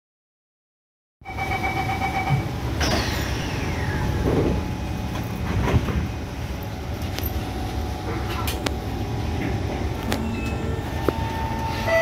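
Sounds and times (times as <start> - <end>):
train running rumble: 1.4 - 12.0
train doors sliding shut: 2.3 - 12.0.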